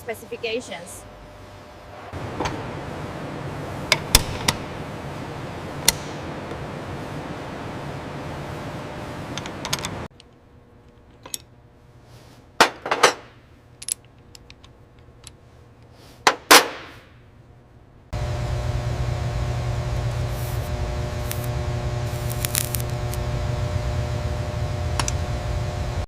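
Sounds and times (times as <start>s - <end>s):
machinery hum: 0.0s - 16.0s, 17.0s - 26.0s.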